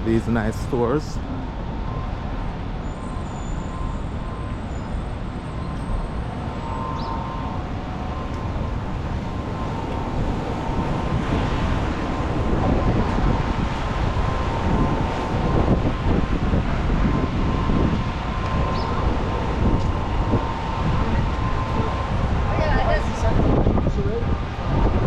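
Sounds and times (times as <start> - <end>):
city traffic on wet streets: 0.0 - 25.0.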